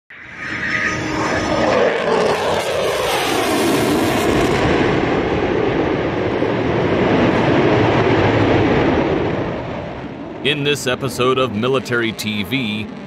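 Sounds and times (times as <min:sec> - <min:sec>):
jet engines roaring: 0:00.1 - 0:13.0.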